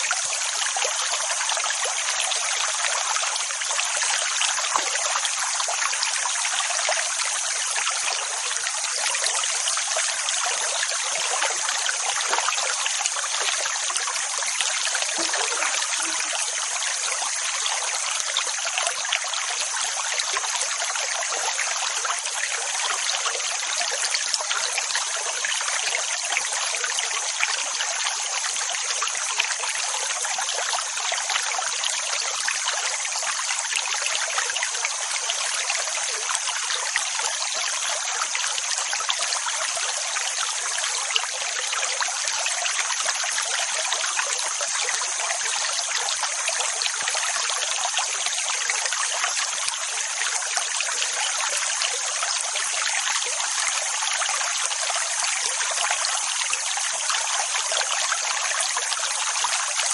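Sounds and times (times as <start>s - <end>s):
rushing trickling water: 0.0s - 59.9s.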